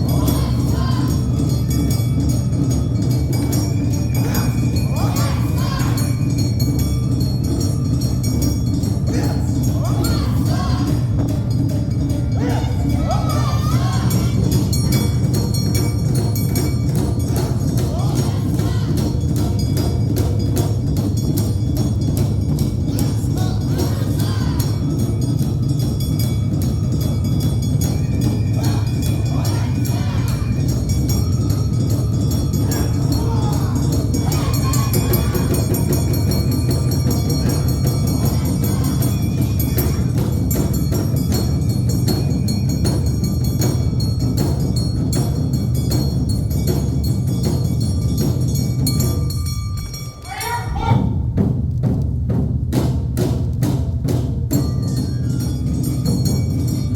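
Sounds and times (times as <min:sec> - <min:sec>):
deep taiko drums: 0:00.0 - 0:50.1, 0:50.9 - 0:56.9
clanging hand gongs: 0:00.0 - 0:50.8, 0:51.4 - 0:56.9.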